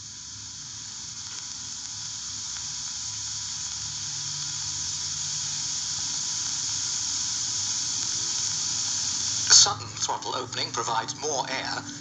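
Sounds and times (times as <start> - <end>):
hiss of air through carburettor: 0.0 - 12.0.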